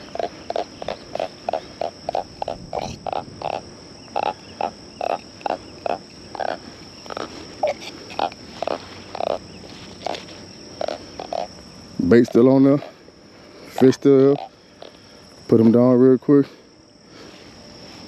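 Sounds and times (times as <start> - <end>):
frogs croaking: 0.0 - 18.0.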